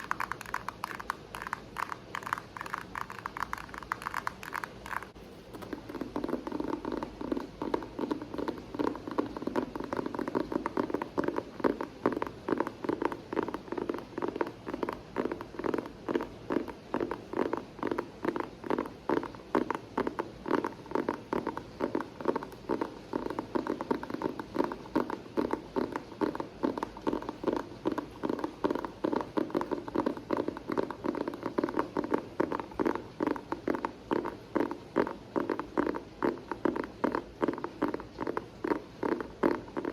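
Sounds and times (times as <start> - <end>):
fingers tapping on hard object: 0.0 - 39.9.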